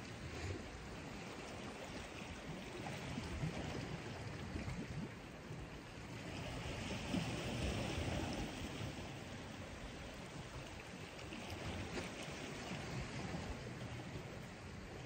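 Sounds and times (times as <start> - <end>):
wind rumbling on microphone: 0.0 - 15.0
sea water washing on rocks: 0.1 - 15.0.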